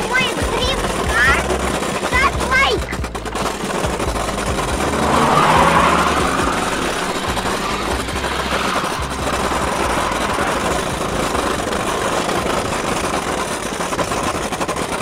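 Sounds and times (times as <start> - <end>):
electric motor whine: 0.0 - 14.1
hard wheels clattering on paving: 0.0 - 15.0.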